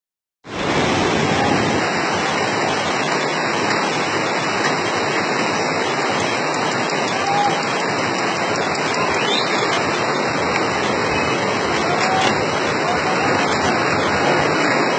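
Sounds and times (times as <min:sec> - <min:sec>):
heavy rain pouring: 0:00.5 - 0:14.9.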